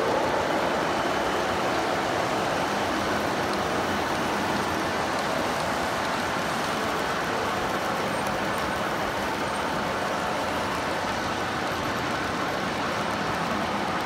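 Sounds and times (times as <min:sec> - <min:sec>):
model trains rumbling on track: 0:00.0 - 0:14.0.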